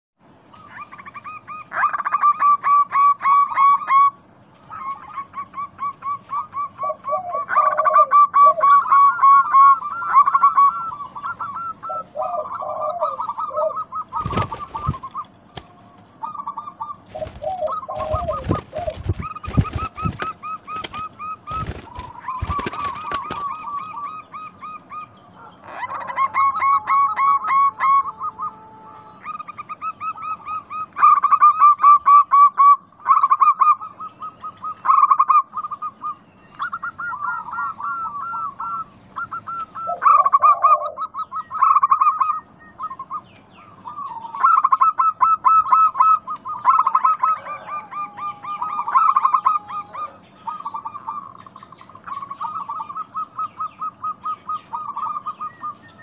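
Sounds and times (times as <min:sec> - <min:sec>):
doves cooing: 0:00.5 - 0:56.0.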